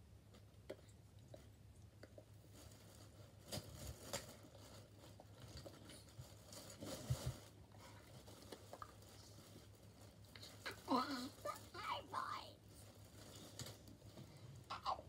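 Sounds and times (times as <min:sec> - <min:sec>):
low steady hum: 0:00.0 - 0:15.0
objects rustling in plastic box: 0:02.4 - 0:14.7.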